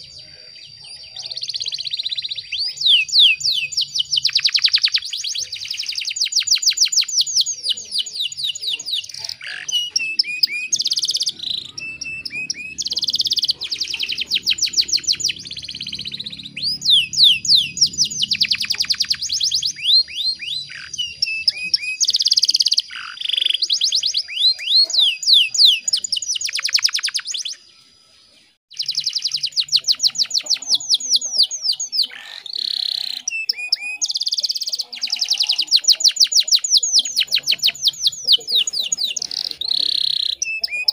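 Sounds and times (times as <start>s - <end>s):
canary singing in fast trills: 0.0s - 40.9s.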